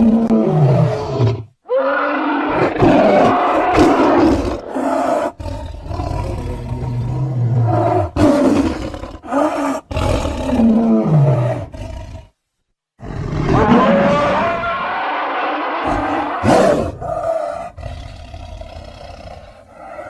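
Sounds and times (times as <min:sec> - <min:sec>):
big cat roaring and growling: 0:00.0 - 0:12.3, 0:13.0 - 0:20.0.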